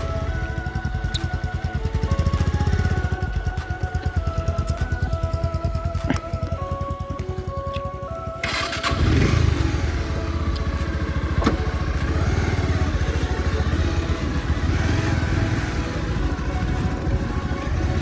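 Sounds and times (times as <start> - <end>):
background music: 0.0 - 18.0
motorcycle engine running: 0.0 - 18.0.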